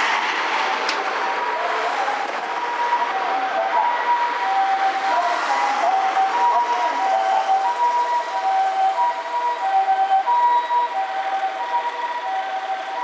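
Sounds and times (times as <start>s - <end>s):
two-tone ambulance siren: 0.1s - 13.0s.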